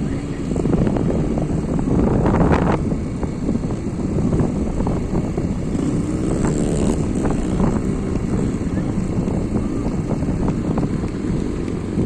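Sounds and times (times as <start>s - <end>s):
vehicle engine running: 0.0s - 12.0s
wind buffeting microphone: 0.0s - 12.0s.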